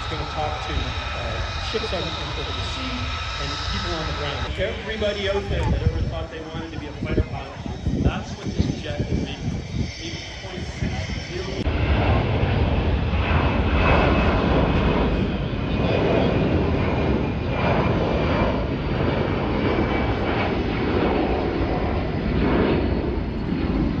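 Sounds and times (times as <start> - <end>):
military jet engine roar: 0.0 - 24.0.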